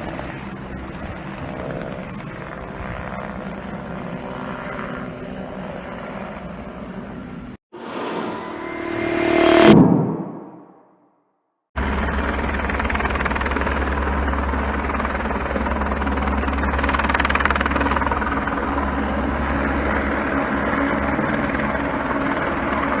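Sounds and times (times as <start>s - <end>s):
helicopter rotor and turbine: 0.0s - 10.4s, 11.8s - 23.0s.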